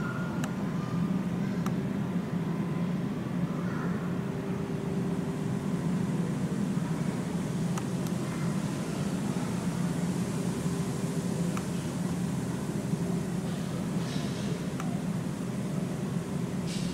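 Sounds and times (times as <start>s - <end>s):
low mechanical hum: 0.0s - 16.9s.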